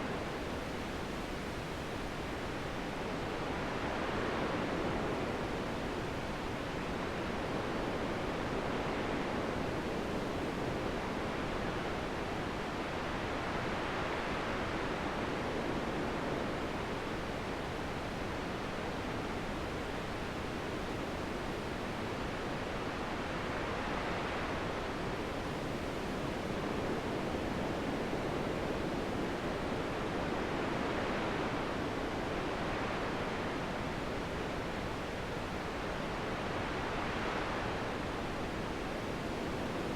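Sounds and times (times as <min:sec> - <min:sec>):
rushing wind in gusts: 0:00.0 - 0:39.9.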